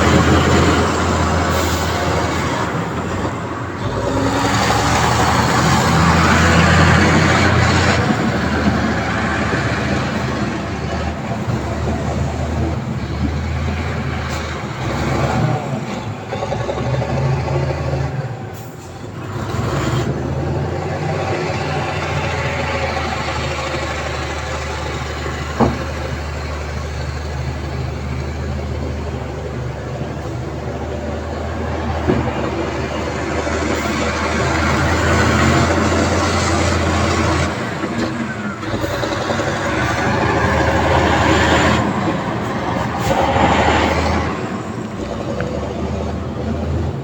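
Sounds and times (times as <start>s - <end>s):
diesel machinery running: 0.0s - 47.0s.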